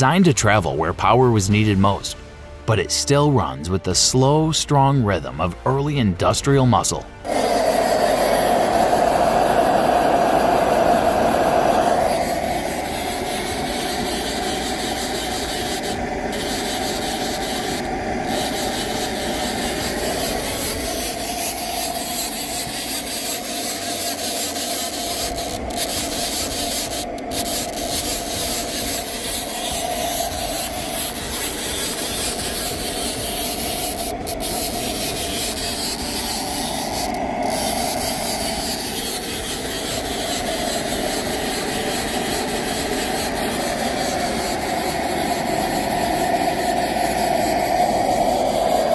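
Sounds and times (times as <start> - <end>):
hot bulb engine running: 7.2 - 48.9.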